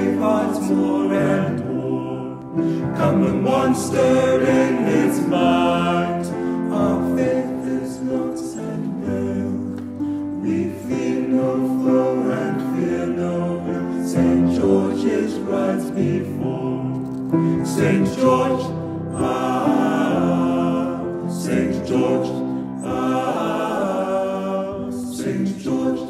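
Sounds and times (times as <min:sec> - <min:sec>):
choir singing with accompaniment: 0:00.0 - 0:26.0.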